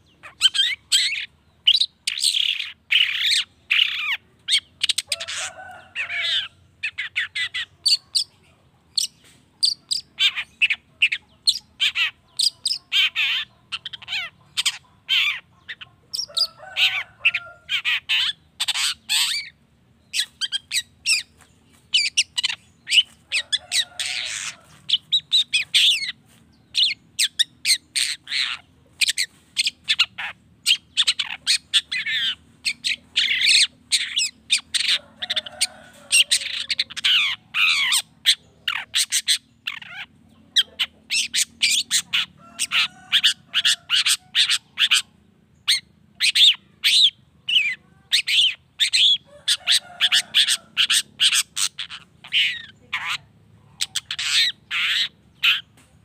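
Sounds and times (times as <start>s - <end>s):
harsh squawking bird calls: 0.0s - 55.9s.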